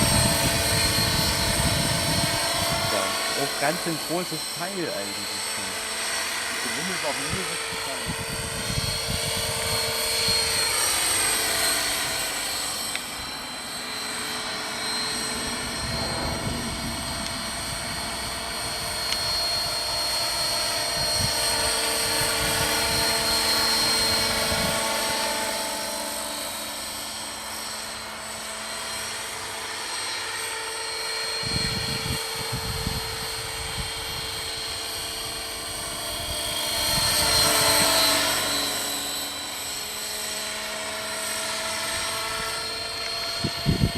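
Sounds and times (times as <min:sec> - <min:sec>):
electric motor whine: 0:00.0 - 0:43.9
rotor blades whirring: 0:00.0 - 0:43.9.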